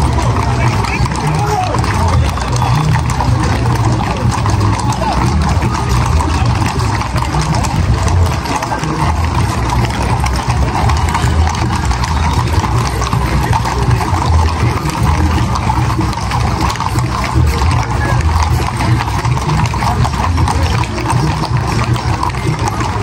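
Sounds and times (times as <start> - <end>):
dense background noise: 0.0 - 23.0
horse hooves clip-clopping: 0.0 - 23.0.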